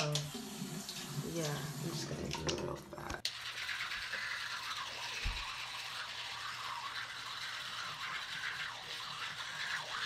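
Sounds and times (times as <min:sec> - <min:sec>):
toothbrush scrubbing teeth: 0:00.1 - 0:10.0.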